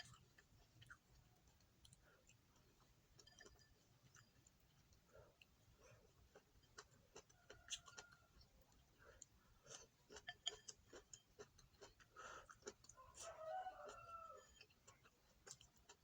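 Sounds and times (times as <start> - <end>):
faint eating clicks and taps: 0.0 - 16.0.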